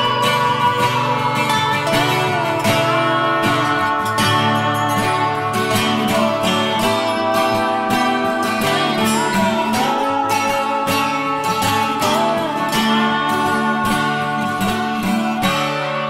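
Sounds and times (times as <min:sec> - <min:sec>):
strummed acoustic guitar music: 0:00.0 - 0:16.0.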